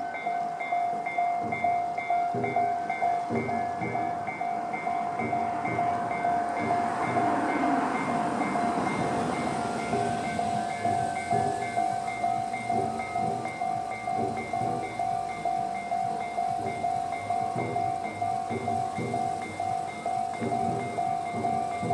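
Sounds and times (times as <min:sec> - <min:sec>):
electric train passing: 0:00.0 - 0:21.9
level crossing warning bell: 0:00.0 - 0:21.9.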